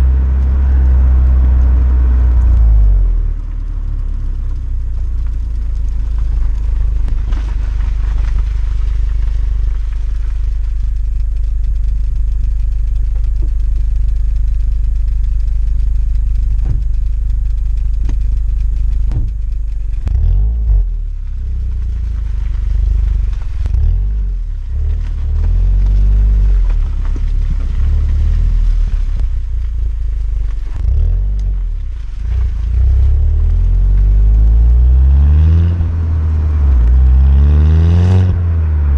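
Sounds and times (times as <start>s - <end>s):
car engine and exhaust driving: 0.0s - 38.9s.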